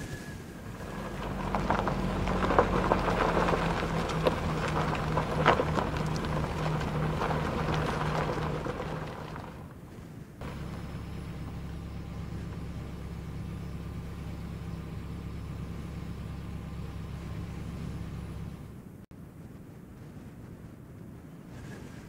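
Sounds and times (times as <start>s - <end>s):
low engine hum: 0.0s - 19.1s
tyres crunching on gravel: 0.6s - 18.8s.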